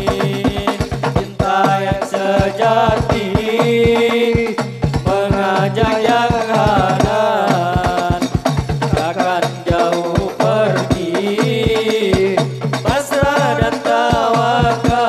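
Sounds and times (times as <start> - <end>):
frame drums in quick rhythm: 0.0 - 15.0
man singing devotional melody: 0.0 - 15.0.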